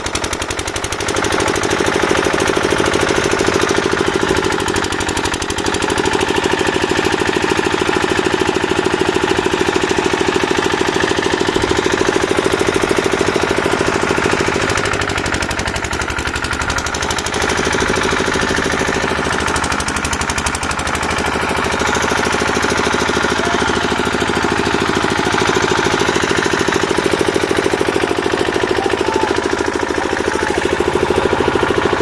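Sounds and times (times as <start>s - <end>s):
machine knocking rhythmically: 0.0s - 32.0s.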